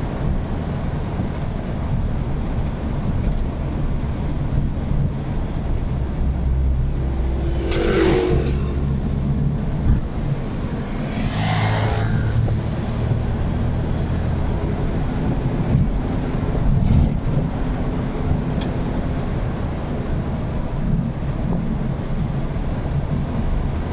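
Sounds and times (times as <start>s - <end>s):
motorcycle engine humming: 0.0s - 20.7s.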